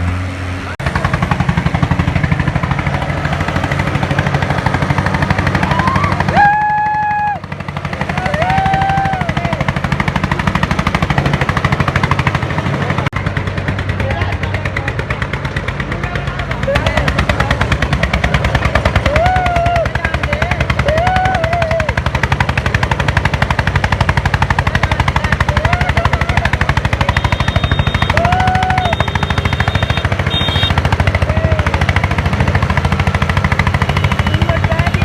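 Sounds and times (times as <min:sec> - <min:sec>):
other tractor engine hum: 0:00.0 - 0:35.0
tractor diesel engine chugging: 0:00.0 - 0:35.0.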